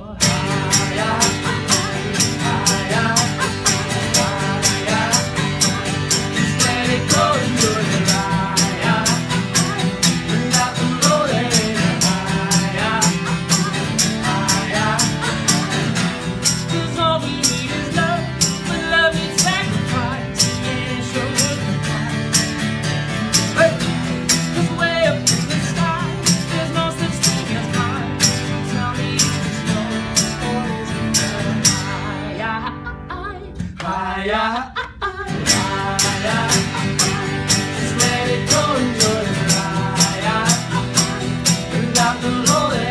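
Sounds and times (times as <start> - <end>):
man singing: 0.0 - 22.6, 23.3 - 32.9, 33.7 - 42.9
acoustic guitars strummed: 0.0 - 34.7, 35.3 - 42.9
hand percussion beat: 0.2 - 32.1, 35.3 - 42.9.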